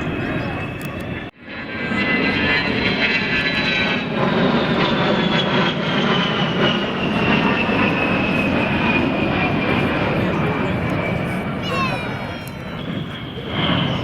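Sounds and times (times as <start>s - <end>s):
airplane engine flying past: 0.0s - 14.0s.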